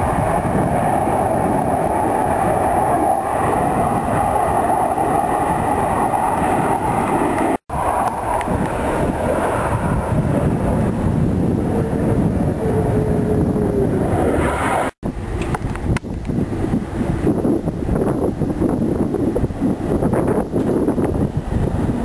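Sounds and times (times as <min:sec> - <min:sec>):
jets in flight: 0:00.0 - 0:22.0.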